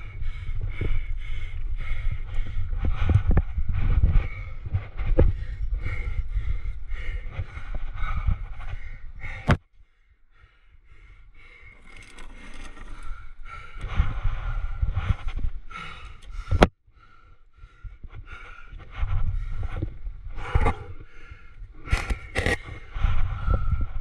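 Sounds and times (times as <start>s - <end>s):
wind rumbling on microphone: 0.0s - 9.6s, 10.3s - 24.0s
heavy breathing: 0.0s - 24.0s.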